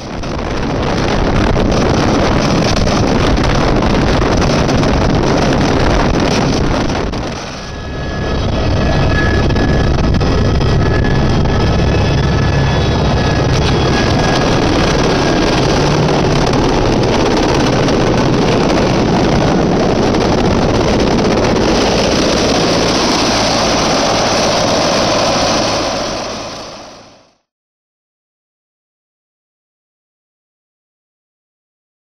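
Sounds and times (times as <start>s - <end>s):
wind buffeting microphone: 0.0s - 27.2s
helicopter rotor and engine: 0.0s - 27.4s.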